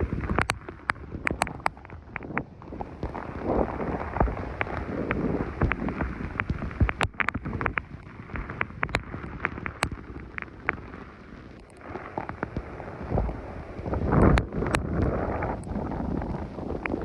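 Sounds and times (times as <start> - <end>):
heavy rain: 0.0 - 17.0
raindrops tapping: 0.0 - 17.0
wind rumbling on microphone: 0.0 - 17.0.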